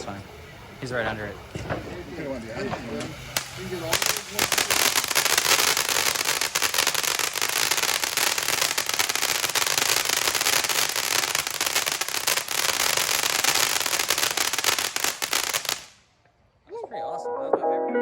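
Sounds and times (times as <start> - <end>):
firework sparks hissing: 0.0 - 16.0
firework crackling: 0.0 - 16.1.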